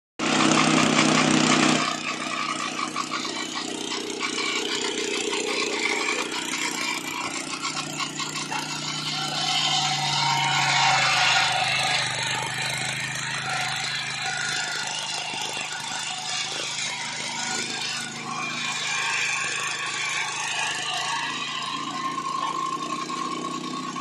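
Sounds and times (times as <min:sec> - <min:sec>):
circular saw cutting log: 0:00.2 - 0:24.0
sawmill engine running: 0:00.2 - 0:24.0.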